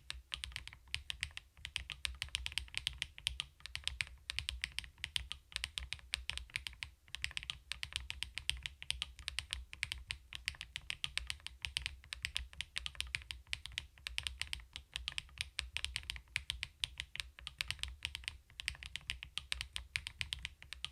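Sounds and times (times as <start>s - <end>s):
mechanical keyboard typing: 0.1s - 20.9s.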